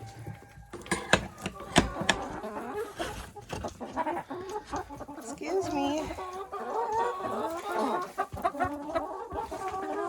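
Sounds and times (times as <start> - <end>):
hens clucking and trilling: 0.0 - 10.0.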